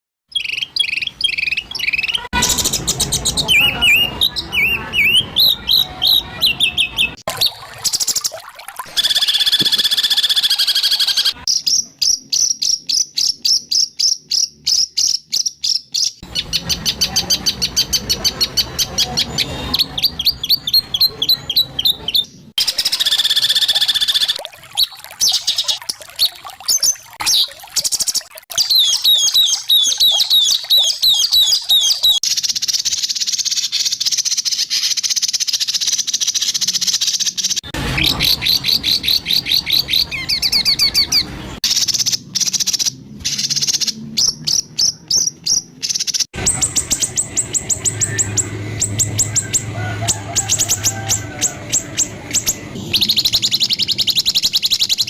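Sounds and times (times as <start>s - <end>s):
songbird singing: 0.3s - 55.0s.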